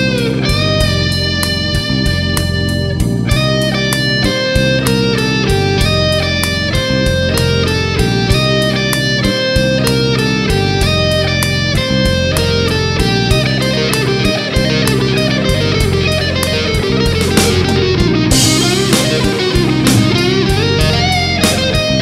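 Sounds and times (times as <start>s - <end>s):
backing track with steady beat: 0.0s - 22.0s
electric guitar lead: 0.0s - 22.0s.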